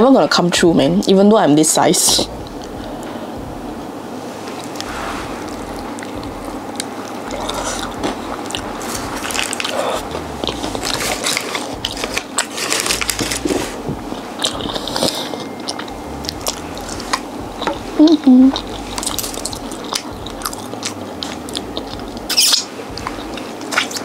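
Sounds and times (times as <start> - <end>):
steady low hum: 0.0 - 24.0
chewing crispy fried food: 4.6 - 24.0.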